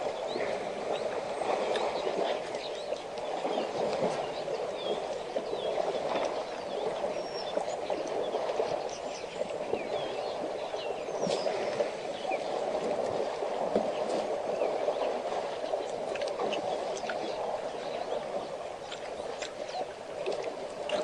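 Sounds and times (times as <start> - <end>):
birds chirping: 0.0 - 21.0
mud and water sloshing: 0.0 - 21.0.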